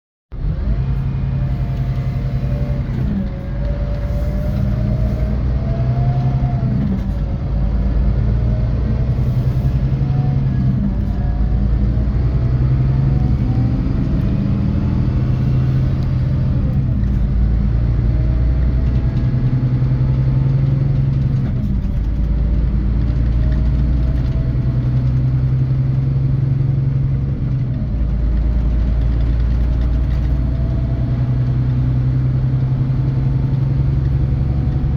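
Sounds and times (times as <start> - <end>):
diesel bus engine under load: 0.3 - 34.9
road noise: 0.3 - 34.9.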